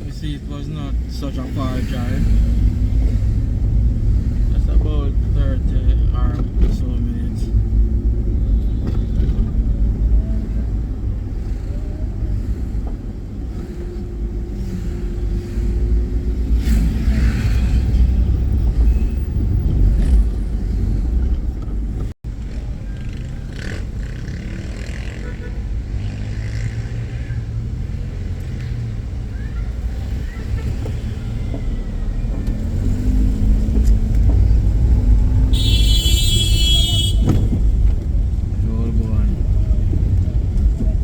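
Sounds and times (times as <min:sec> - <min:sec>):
car engine rumble: 0:00.0 - 0:41.0
road noise: 0:00.0 - 0:41.0.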